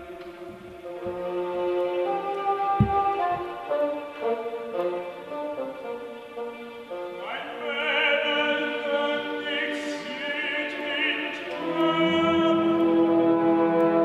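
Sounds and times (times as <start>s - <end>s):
operatic tenor singing: 0.0s - 14.0s
orchestra playing: 0.0s - 14.0s.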